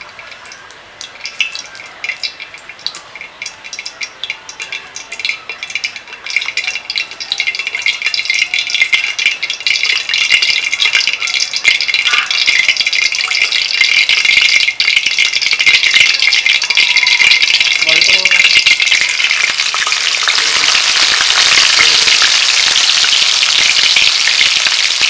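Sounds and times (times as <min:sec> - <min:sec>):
oil sizzling and crackling: 0:00.0 - 0:25.0.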